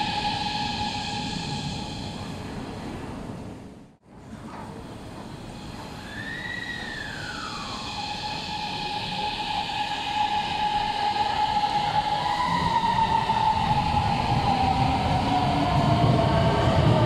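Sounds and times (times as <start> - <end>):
train traction inverter singing: 0.0 - 3.5, 4.6 - 17.0
rumble of train wheels: 0.0 - 17.0.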